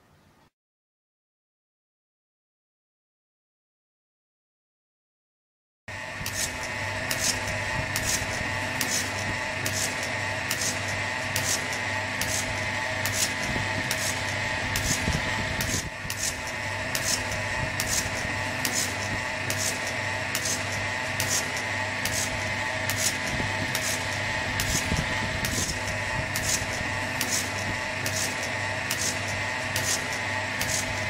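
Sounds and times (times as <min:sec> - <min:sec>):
vacuum pump humming: 0:05.9 - 0:31.0.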